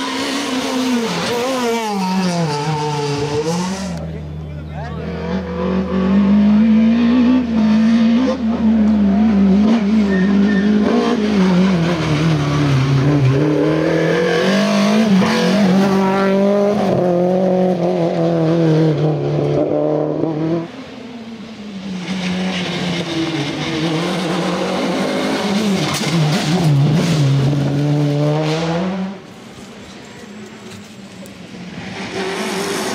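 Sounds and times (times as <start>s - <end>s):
rally car engines at full throttle: 0.0s - 32.9s.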